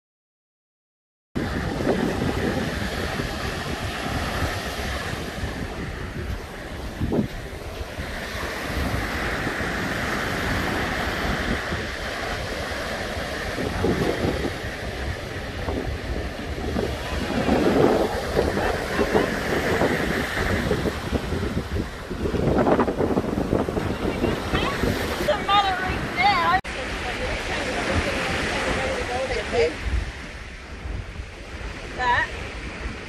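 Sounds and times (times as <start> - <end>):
surf breaking on beach: 1.4 - 33.0
wind buffeting microphone: 1.4 - 33.0.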